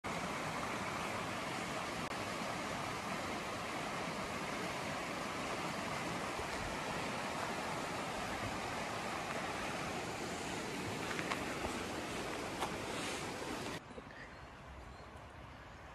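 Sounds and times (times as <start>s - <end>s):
river rushing over rapids: 0.1s - 13.8s.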